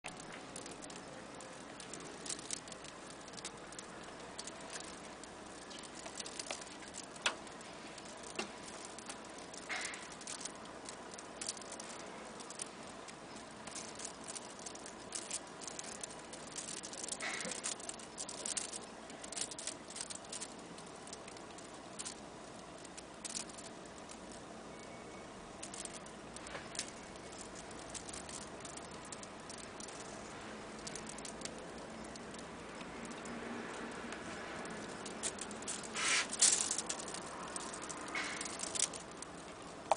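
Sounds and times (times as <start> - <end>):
fingers kneading crackling fruit skin: 0.0 - 39.9.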